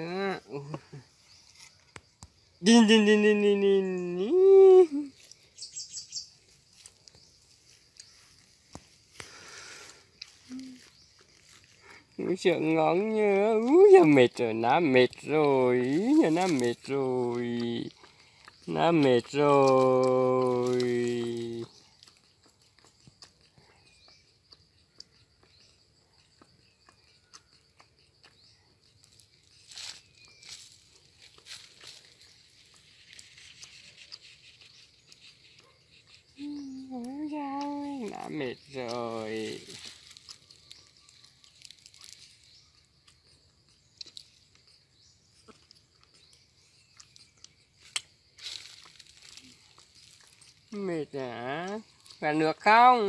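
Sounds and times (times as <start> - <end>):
high insect drone: 0.0 - 53.0
bird high chirps: 0.2 - 9.2, 15.5 - 53.0.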